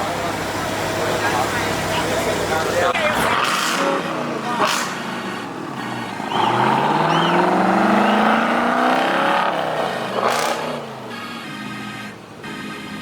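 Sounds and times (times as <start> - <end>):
car engine accelerating hard: 0.0 - 11.1.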